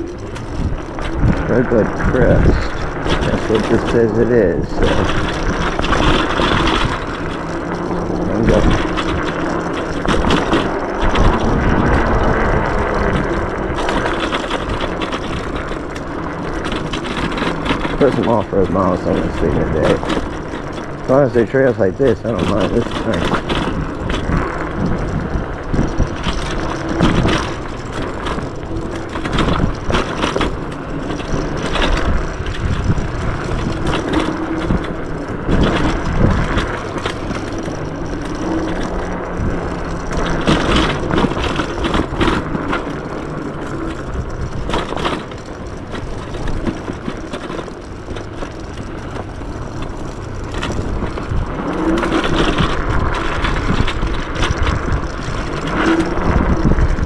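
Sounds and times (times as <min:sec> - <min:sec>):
knocks and rattles over bumps: 0:00.0 - 0:57.0
tyres rumbling on dirt: 0:00.0 - 0:57.0.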